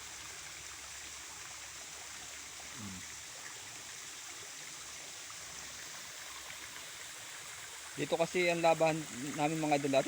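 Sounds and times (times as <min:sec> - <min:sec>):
creek flowing over rocks: 0:00.0 - 0:10.0.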